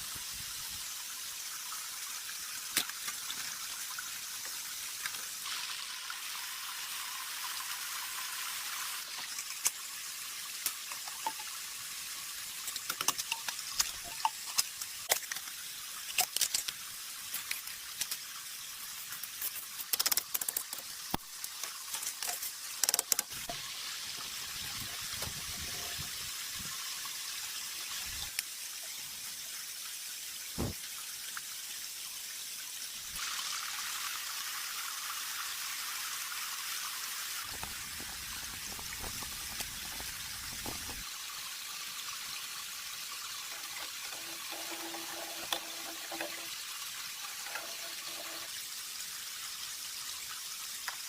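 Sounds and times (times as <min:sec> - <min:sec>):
falling water hiss: 0:00.0 - 0:51.0
water ticks and drips: 0:00.0 - 0:51.0.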